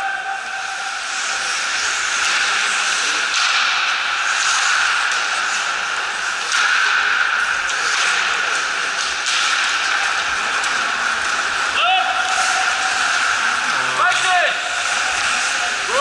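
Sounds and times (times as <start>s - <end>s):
steady hiss: 0.4s - 16.0s
skate blades scraping on ice: 0.6s - 16.0s.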